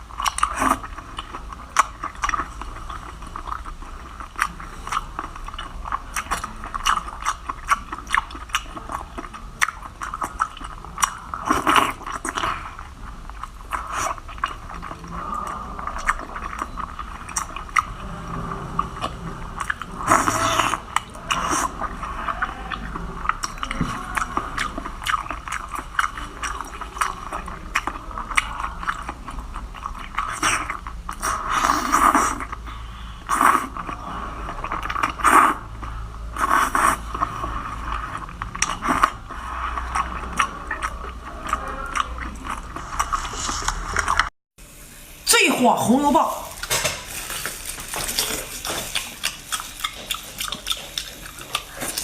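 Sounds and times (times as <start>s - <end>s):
person chewing crunchy food: 0.0s - 44.3s, 46.4s - 52.0s.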